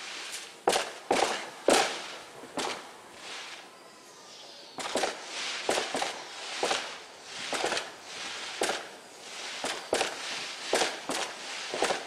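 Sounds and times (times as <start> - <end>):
fireworks banging: 0.0 - 3.7, 4.8 - 12.0
crackling hiss: 0.0 - 12.0.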